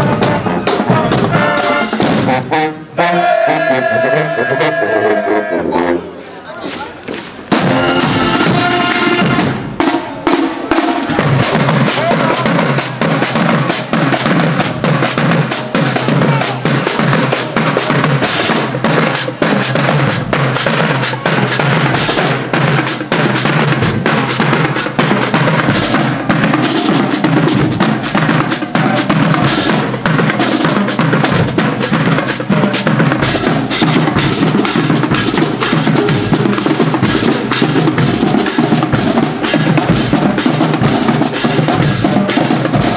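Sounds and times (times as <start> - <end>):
bass drums: 0.0 - 2.5, 7.2 - 42.9
snare drums: 0.0 - 5.4, 6.6 - 42.9.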